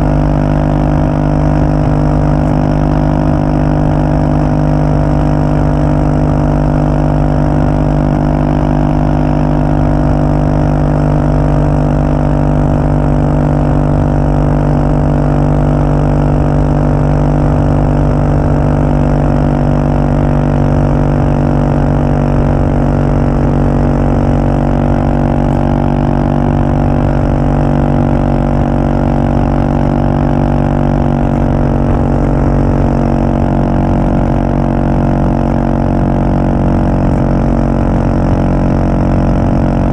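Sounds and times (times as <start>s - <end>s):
single-cylinder engine exhaust: 0.0s - 39.9s.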